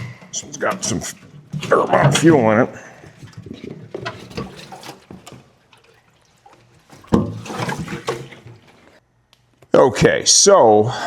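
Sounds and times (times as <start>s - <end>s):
fuel sloshing in tank: 0.0s - 9.0s.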